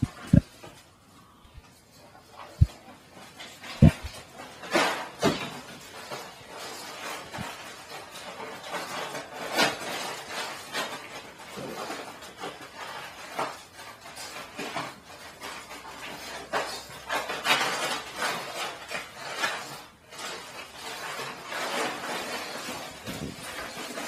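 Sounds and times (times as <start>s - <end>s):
bag dragged across tile floor: 0.0s - 24.0s
plastic bag crinkling: 0.0s - 24.0s.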